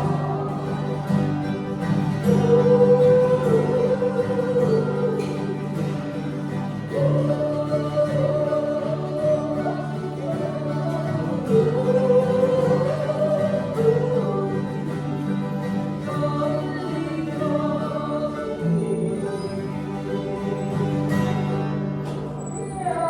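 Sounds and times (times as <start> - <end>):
acoustic instrument accompaniment: 0.0 - 23.0
group of voices singing: 0.0 - 23.0.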